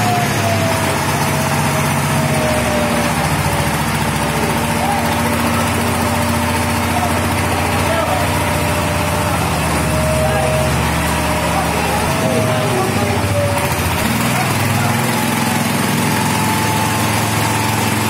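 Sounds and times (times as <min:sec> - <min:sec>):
tiller diesel engine running: 0:00.0 - 0:18.0
tines churning soil: 0:00.0 - 0:18.0.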